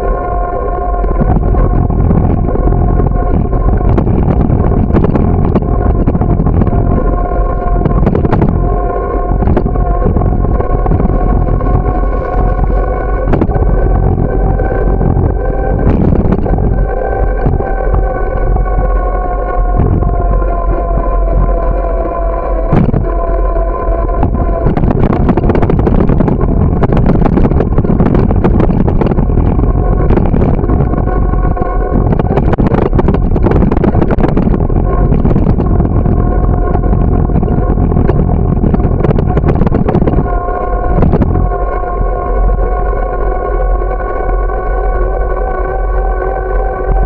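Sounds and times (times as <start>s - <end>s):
steady whining hum: 0.0s - 47.0s
wind rushing over microphone: 0.0s - 47.0s.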